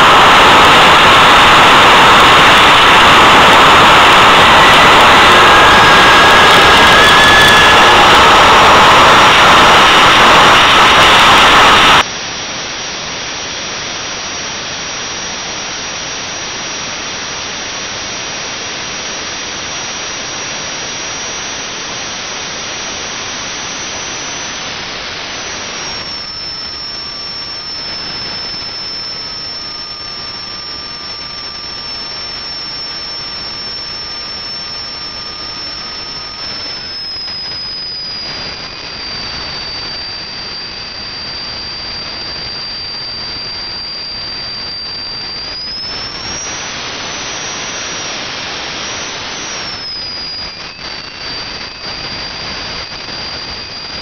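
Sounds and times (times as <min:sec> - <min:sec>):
low whistle: 0:00.0 - 0:12.1, 0:19.0 - 0:54.0
turbojet engine with turbine whine: 0:00.0 - 0:54.0.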